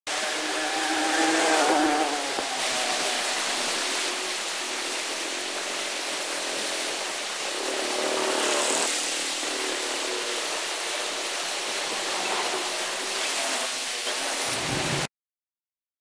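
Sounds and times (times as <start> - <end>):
water rushing past piers: 0.1 - 15.1.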